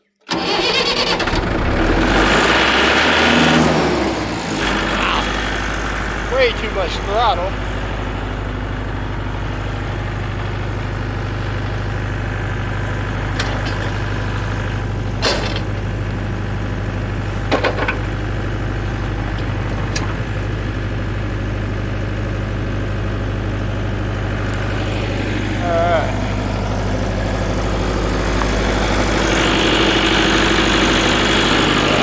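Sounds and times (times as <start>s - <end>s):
tractor engine running: 0.3s - 32.0s.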